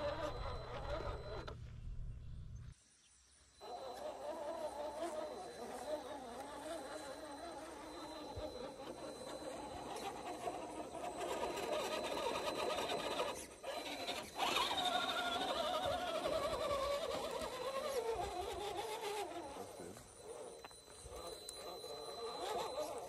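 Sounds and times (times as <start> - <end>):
electric motor and gears whining: 0.0 - 2.8, 3.6 - 23.0.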